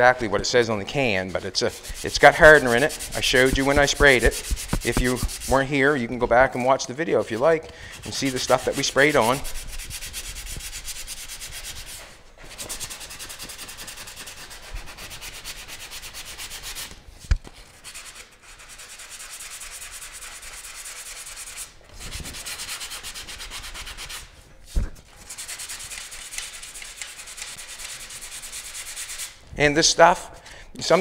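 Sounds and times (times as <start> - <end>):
sandpaper scratching on panel: 0.2 - 17.0, 17.6 - 31.0.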